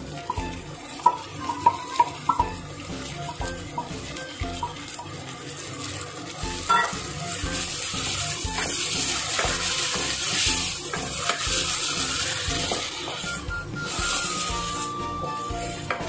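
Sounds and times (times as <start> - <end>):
frying sizzle: 0.0 - 16.0
lentils poured into pot: 0.0 - 16.0
wooden spatula scraping: 0.0 - 16.0.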